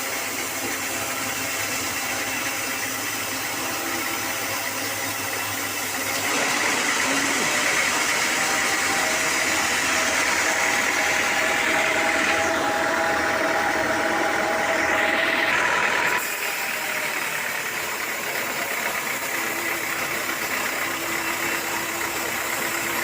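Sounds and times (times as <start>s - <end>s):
sawmill machinery humming: 0.0s - 23.0s.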